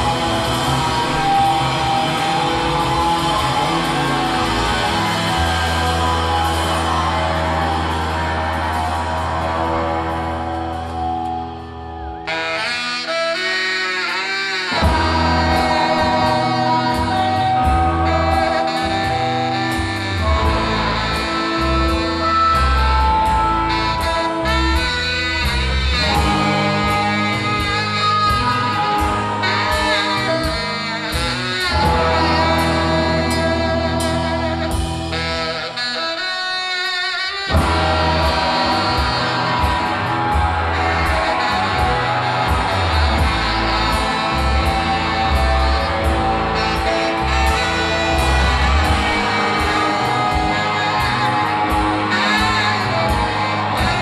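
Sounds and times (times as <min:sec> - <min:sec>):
surf rock band playing: 0:00.0 - 0:54.0.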